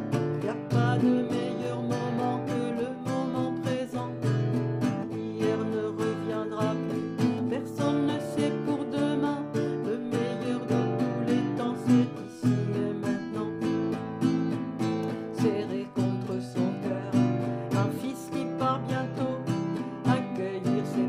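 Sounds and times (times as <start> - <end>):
nylon-string acoustic guitar strumming: 0.0 - 21.0.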